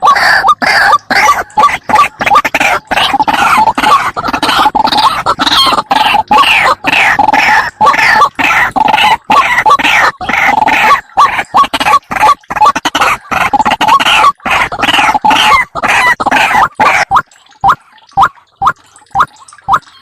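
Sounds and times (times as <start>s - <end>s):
waterhen calling rapidly: 0.0s - 20.0s.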